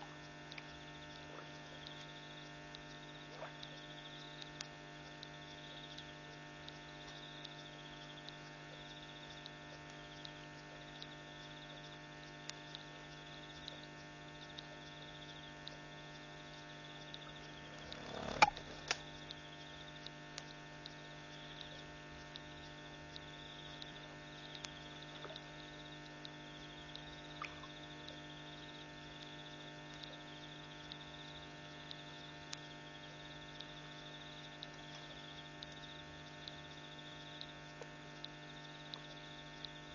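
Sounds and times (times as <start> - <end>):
electrical mains hum: 0.0 - 39.9
faint high-pitched whine: 0.0 - 39.9
faint ticks: 0.0 - 39.9.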